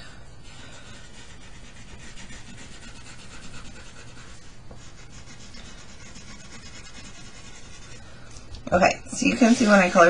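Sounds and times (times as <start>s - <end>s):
crayon scribbling on paper: 0.4s - 8.0s, 9.2s - 10.0s.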